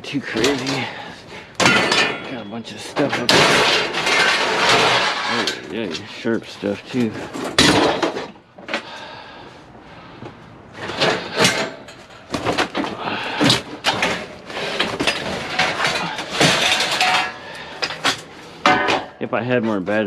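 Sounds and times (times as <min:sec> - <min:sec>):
scrap metal clattering: 0:00.1 - 0:09.3, 0:10.0 - 0:20.0.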